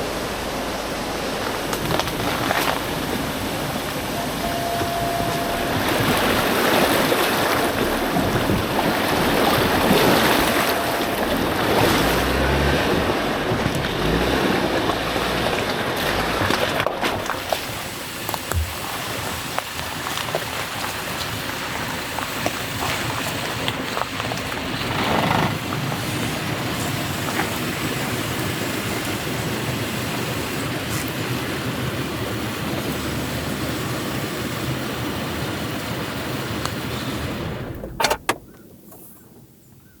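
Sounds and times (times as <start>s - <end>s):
steady rain hiss: 0.0s - 37.8s.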